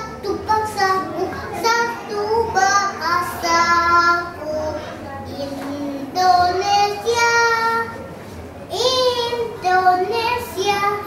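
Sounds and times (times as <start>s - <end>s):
young boy singing: 0.0s - 8.0s, 8.7s - 11.0s.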